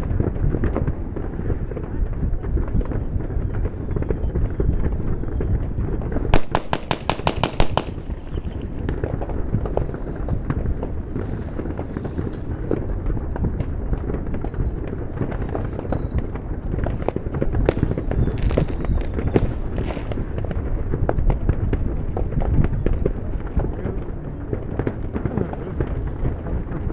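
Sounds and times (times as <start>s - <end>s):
firecrackers banging: 0.0s - 26.9s
fireworks popping and crackling: 0.0s - 26.9s
loud fireworks cracks: 0.0s - 26.9s.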